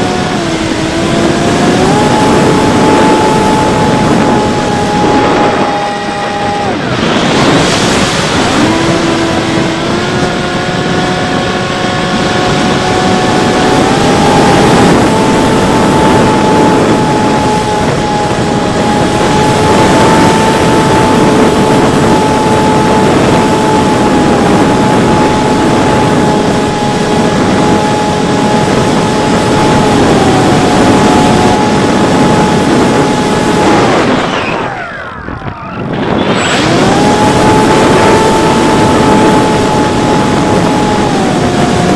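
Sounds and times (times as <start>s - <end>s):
electric motor and propeller whine: 0.0s - 41.9s
wind noise: 0.0s - 41.9s.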